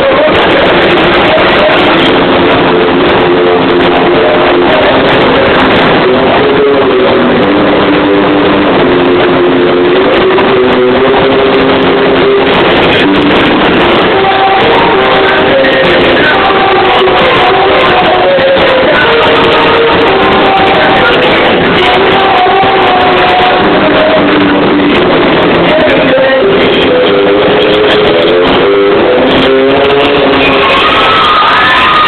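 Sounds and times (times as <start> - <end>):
held guitar notes: 0.0 - 32.0
rock band playing distorted music: 0.0 - 32.0.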